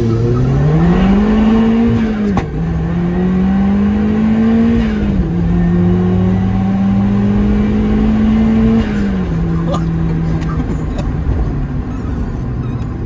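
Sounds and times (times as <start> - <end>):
car engine accelerating and upshifting: 0.0 - 13.0.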